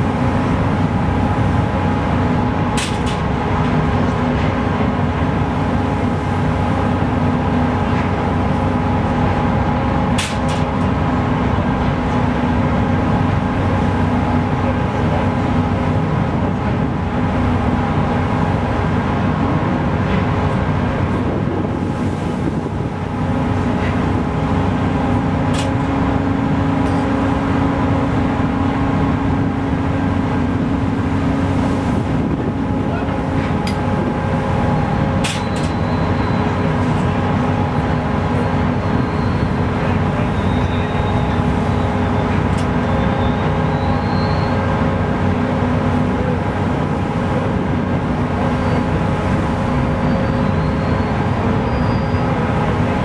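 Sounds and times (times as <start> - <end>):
machinery humming drone: 0.0 - 53.0.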